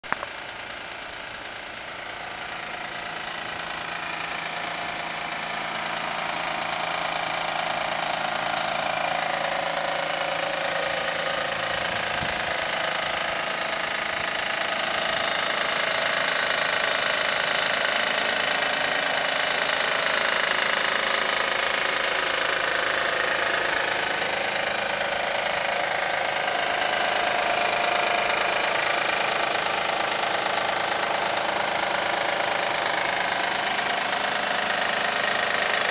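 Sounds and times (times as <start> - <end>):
car engine idling with knocking: 0.0 - 35.9.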